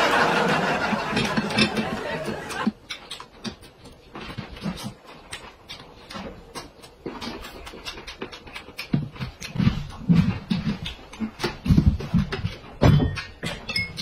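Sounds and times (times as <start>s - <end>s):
man chewing and smacking lips: 0.0s - 14.0s.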